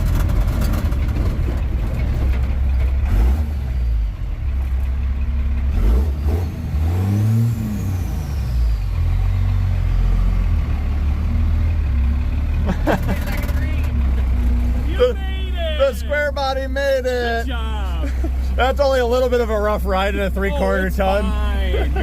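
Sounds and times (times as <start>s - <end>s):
pickup truck engine running: 0.0s - 22.0s.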